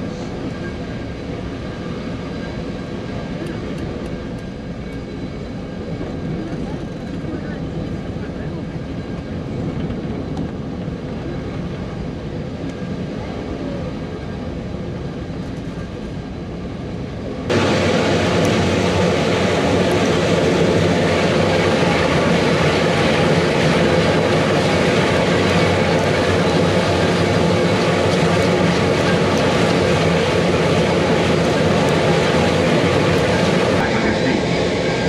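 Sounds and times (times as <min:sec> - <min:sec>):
rack railway train rumbling: 0:00.0 - 0:12.8, 0:14.9 - 0:35.0.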